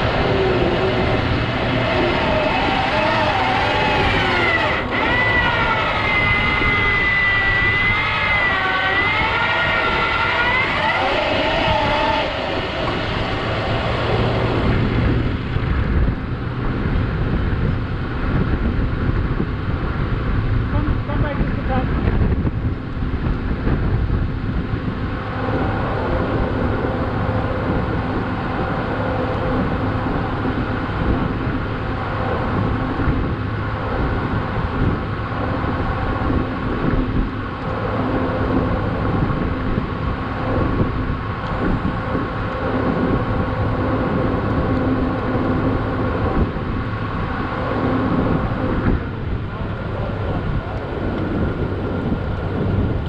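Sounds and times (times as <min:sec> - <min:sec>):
car engine idling: 0:00.0 - 0:53.0
wind buffeting microphone: 0:00.0 - 0:53.0.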